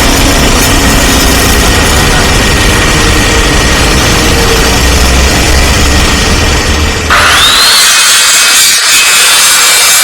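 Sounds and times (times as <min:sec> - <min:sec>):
heavy machinery engine running: 0:00.0 - 0:08.1.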